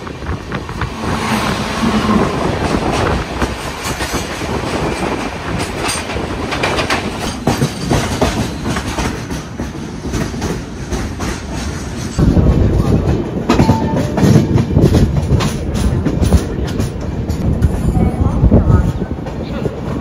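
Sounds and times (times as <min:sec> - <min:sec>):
wheels clacking over rail joints: 0:00.0 - 0:17.9
train wheel and track rush: 0:00.0 - 0:20.0.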